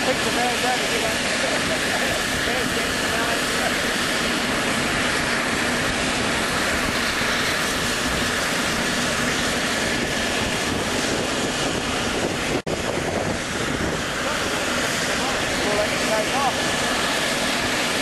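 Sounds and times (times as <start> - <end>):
faint high turbine whine: 0.0 - 18.0
helicopter rotor and turbine rush: 0.0 - 18.0.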